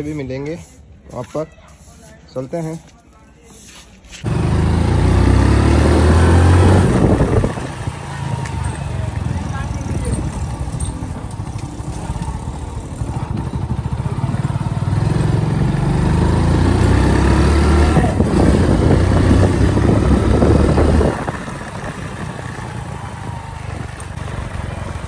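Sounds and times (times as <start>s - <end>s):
motorcycle engine running: 4.2s - 25.0s.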